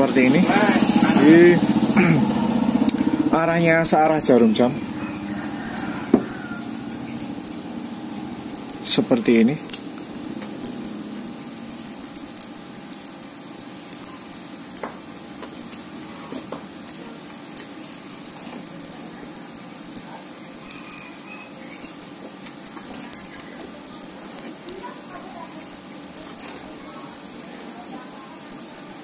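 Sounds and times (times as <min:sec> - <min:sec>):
steady low background noise: 0:00.0 - 0:29.0
wire winding rustling: 0:03.5 - 0:29.0
light irregular ticks: 0:04.5 - 0:29.0.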